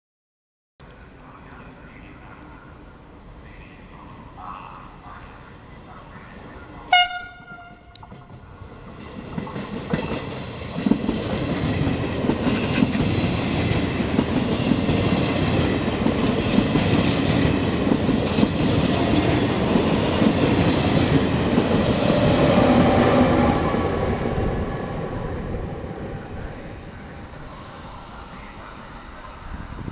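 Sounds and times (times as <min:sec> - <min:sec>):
train passing: 0:01.0 - 0:29.9.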